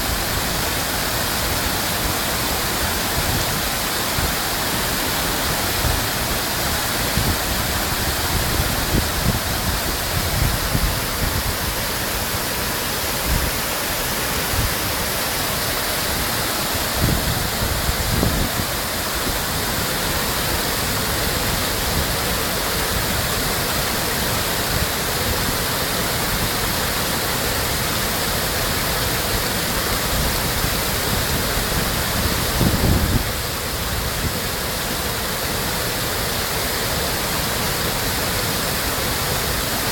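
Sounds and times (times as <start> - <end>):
water rushing down cascade: 0.0 - 39.9.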